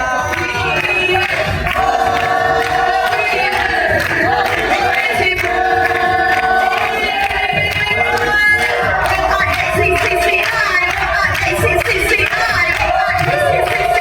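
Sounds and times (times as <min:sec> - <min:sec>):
crowd noise in large hall: 0:00.0 - 0:14.0
singing with long held notes: 0:00.0 - 0:14.0.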